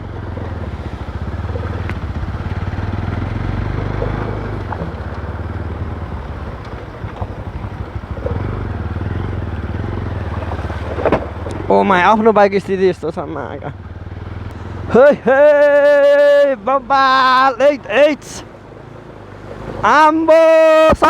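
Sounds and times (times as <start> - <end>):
motorcycle engine running: 0.0 - 19.5
road and wind noise: 0.0 - 21.0.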